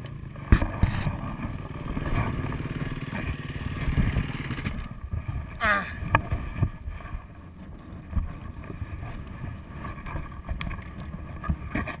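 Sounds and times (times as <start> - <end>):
wind buffeting microphone: 0.5 - 12.0.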